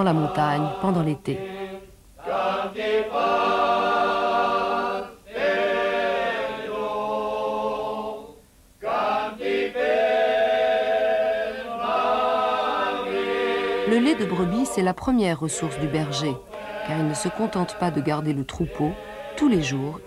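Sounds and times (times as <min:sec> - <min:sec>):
men singing unaccompanied: 0:00.0 - 0:20.0.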